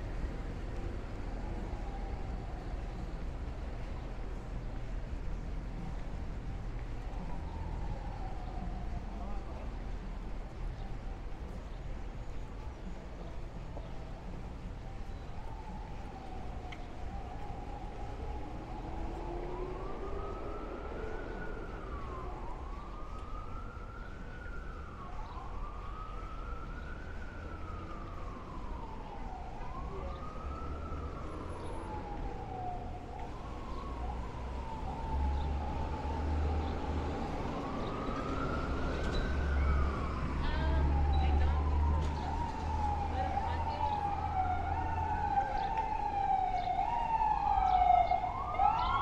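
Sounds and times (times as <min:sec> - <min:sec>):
emergency vehicle siren wailing: 0:00.0 - 0:49.0
low street noise: 0:00.0 - 0:49.0.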